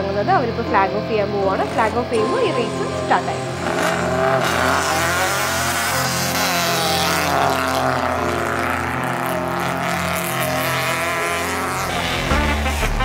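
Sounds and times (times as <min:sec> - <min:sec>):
rally car engine revving: 0:01.2 - 0:13.0.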